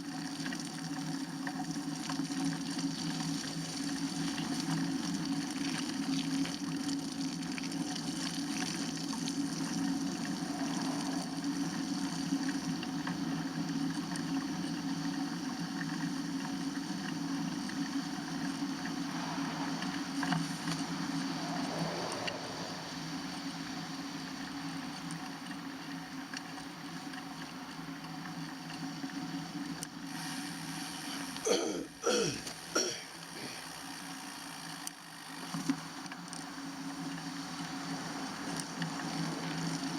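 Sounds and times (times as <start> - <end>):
bicycle tyres hissing through water: 0.0 - 39.9
wind: 0.0 - 39.9.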